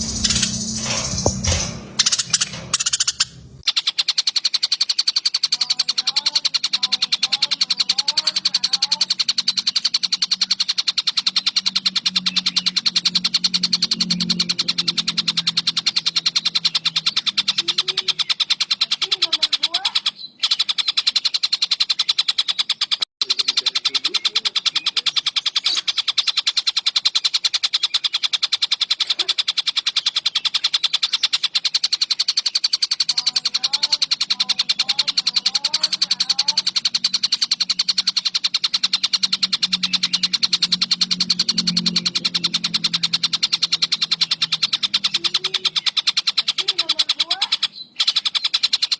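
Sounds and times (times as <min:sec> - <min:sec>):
kingfisher calls: 0:00.0 - 0:48.9
sparrows chattering: 0:00.0 - 0:48.9.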